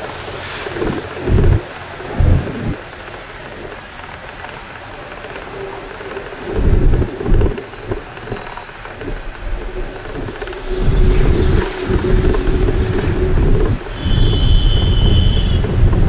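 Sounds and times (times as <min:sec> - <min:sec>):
bus engine hum: 0:00.0 - 0:16.0
wind buffeting microphone: 0:00.0 - 0:16.0.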